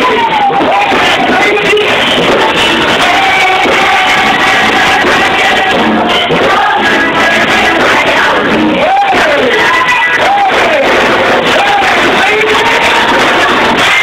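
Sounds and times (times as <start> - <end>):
children singing gospel song: 0.0 - 14.0
loud musical accompaniment: 0.0 - 14.0.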